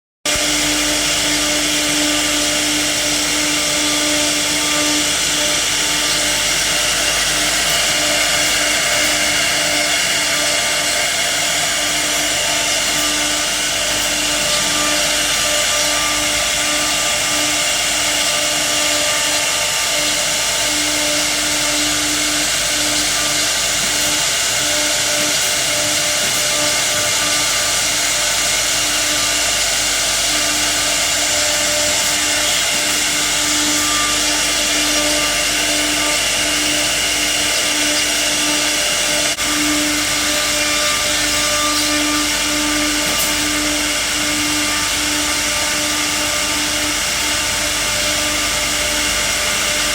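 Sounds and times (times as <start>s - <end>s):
cnc router cutting wood: 0.3s - 49.9s.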